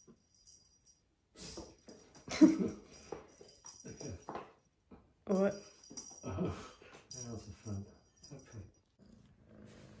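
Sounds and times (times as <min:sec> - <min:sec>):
small bell jingling: 0:00.0 - 0:09.0.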